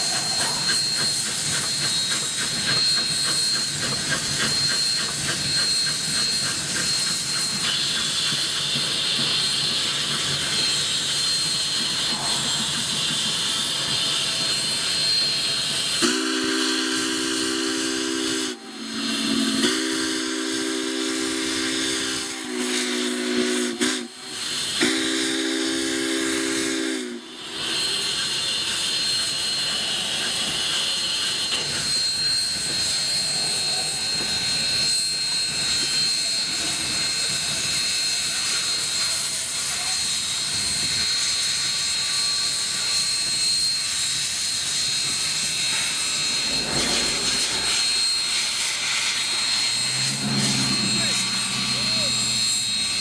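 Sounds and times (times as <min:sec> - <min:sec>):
steam hissing: 0:00.0 - 0:53.0
steam locomotive chime whistle: 0:00.0 - 0:53.0.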